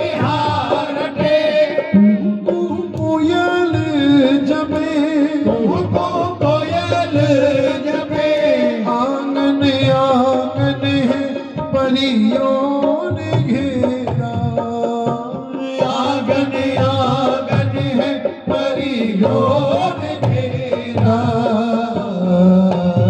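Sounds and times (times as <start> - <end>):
drum strokes: 0.0 - 23.0
instrumental accompaniment: 0.0 - 23.0
man singing through microphone: 0.0 - 23.0.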